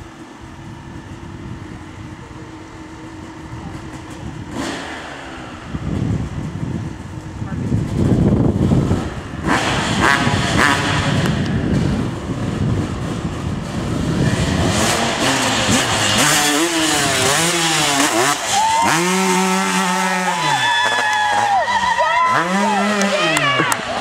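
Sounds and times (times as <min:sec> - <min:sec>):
dirt bike engine revving: 0:00.9 - 0:24.0.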